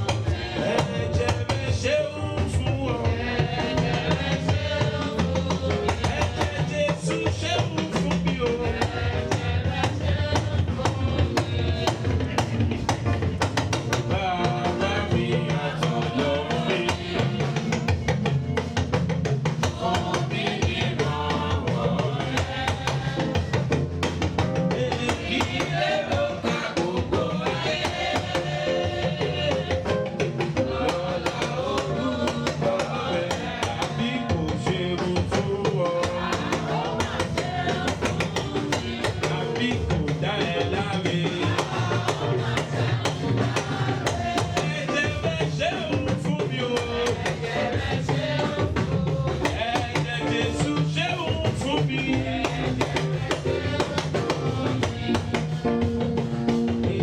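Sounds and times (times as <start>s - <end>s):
drum kit beat: 0.0s - 57.0s.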